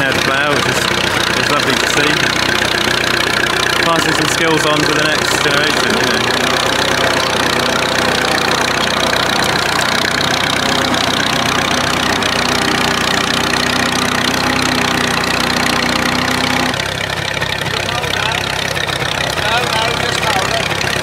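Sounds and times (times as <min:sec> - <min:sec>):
tractor engine running steadily: 0:00.0 - 0:21.0.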